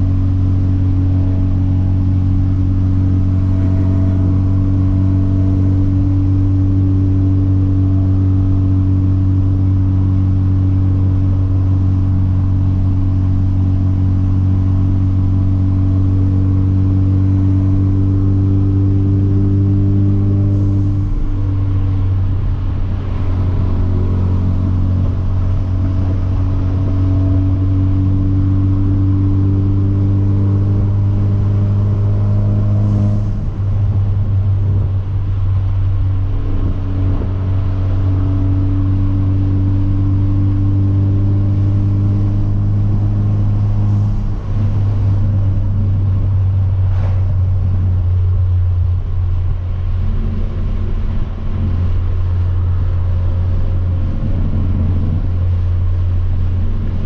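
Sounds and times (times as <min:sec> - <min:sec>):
car engine cruising: 0:00.0 - 0:57.0.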